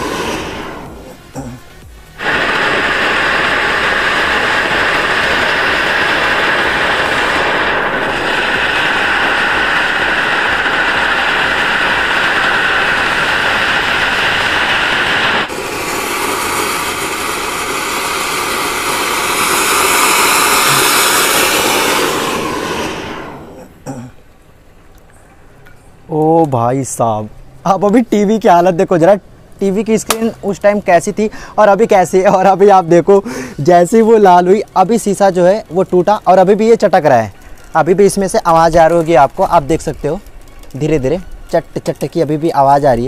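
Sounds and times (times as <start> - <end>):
fireworks spraying sparks with hiss: 0.0 - 23.8, 29.9 - 43.0.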